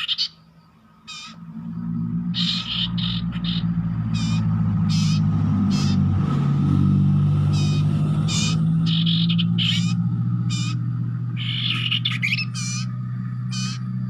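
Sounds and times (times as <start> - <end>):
loud low steady drone: 1.2 - 14.0.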